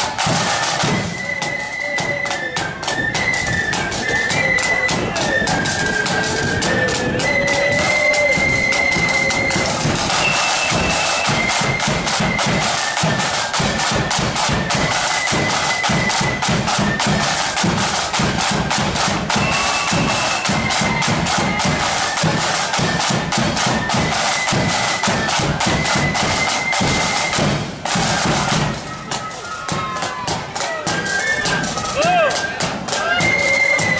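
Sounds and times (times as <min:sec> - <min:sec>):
flutes playing a tune: 0:00.0 - 0:33.9
side drums beating rapidly: 0:00.0 - 0:33.9.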